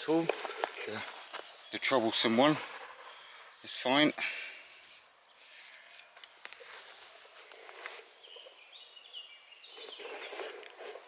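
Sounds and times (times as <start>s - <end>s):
high insect trill: 0.0s - 11.0s.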